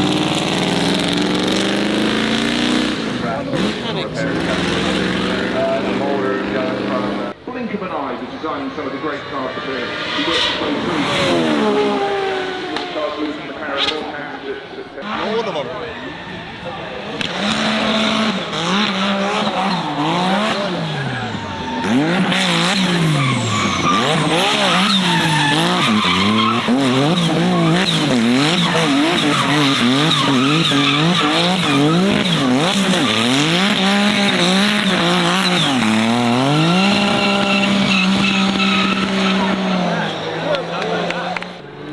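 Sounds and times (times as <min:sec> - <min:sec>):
car engine revving: 0:00.0 - 0:41.9
tyres squealing: 0:00.0 - 0:41.9.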